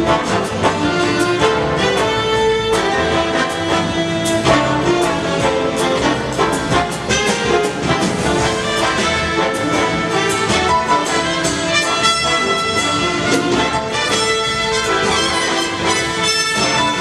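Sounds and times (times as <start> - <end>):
brass section: 0.0 - 17.0
drum kit groove: 0.0 - 17.0.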